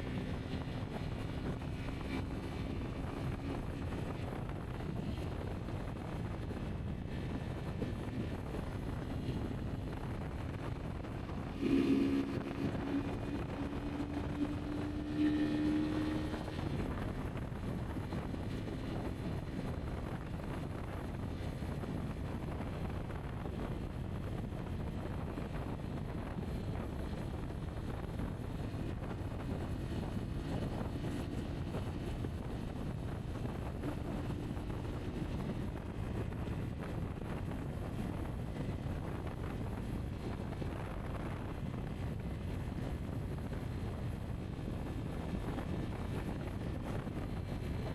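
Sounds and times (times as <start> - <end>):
motorcycle engine running: 0.0 - 47.9
wind rumble on microphone: 0.0 - 47.9.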